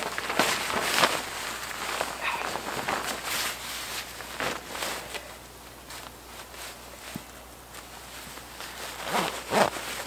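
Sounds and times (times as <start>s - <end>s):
nylon jacket rustling: 0.0s - 5.2s, 5.9s - 10.0s.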